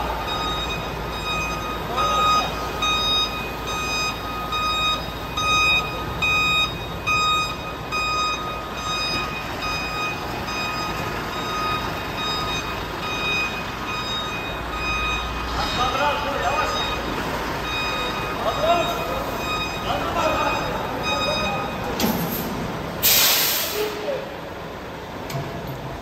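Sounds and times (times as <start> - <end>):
reversing alarm beeping: 0.0 - 24.0
truck engine running: 0.0 - 26.0.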